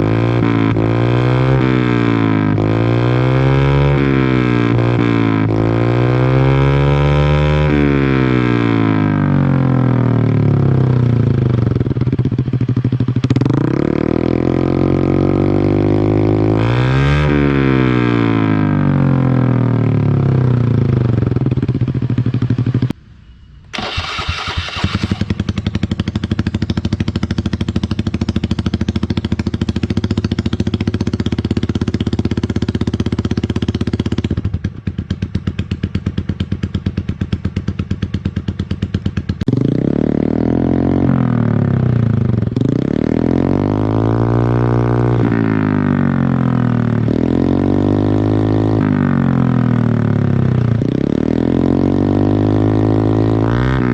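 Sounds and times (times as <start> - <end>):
motorcycle engine revving and idling: 0.0 - 23.0, 23.7 - 53.9.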